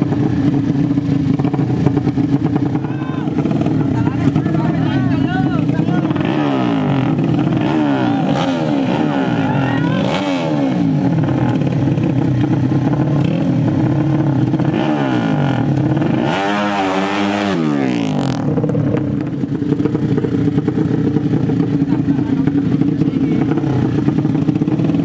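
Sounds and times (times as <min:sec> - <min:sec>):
motorbike engines revving: 0:00.0 - 0:25.0.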